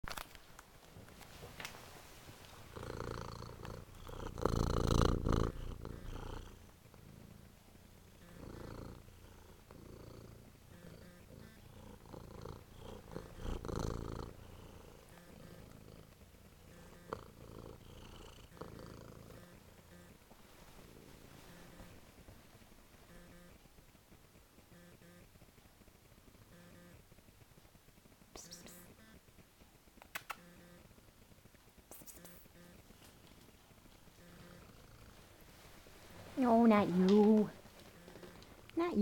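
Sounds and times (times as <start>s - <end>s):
cat purring: 0.5s - 39.0s.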